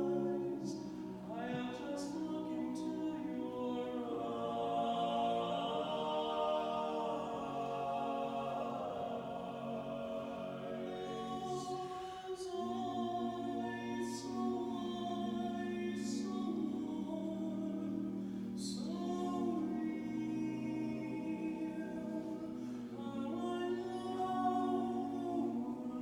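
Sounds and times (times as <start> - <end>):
barbershop singers in harmony: 0.0 - 26.0.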